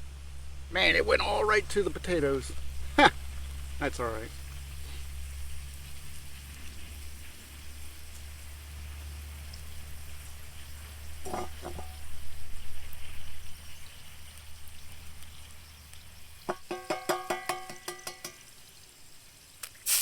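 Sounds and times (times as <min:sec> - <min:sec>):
food sizzling in oil: 0:01.5 - 0:20.0.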